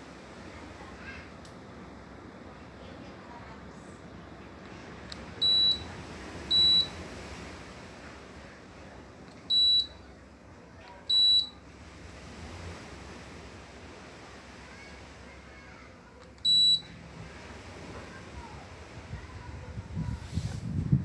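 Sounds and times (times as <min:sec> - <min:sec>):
air conditioner beeping: 0:00.0 - 0:18.6.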